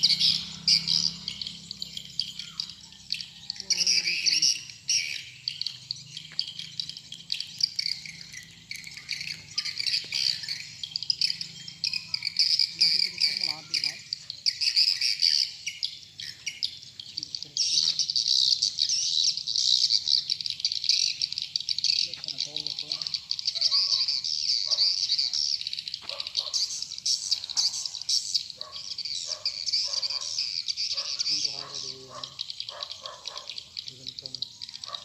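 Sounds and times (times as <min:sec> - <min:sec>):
swiftlets twittering chirps: 0:00.0 - 0:35.0.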